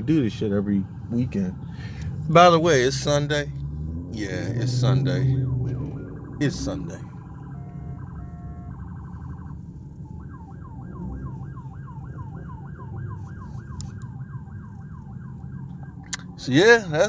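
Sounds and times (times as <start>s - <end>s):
car engines idling: 0.0s - 17.0s
electronic siren: 3.0s - 17.0s.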